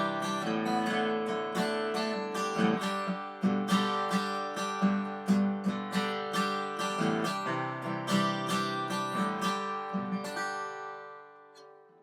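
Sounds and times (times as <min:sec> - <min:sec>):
strummed acoustic guitar chords: 0:00.0 - 0:11.8.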